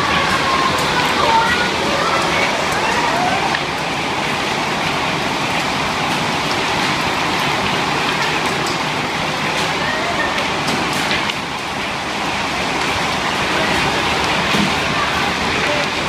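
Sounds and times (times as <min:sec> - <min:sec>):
hail hammering a roof: 0:00.0 - 0:16.0.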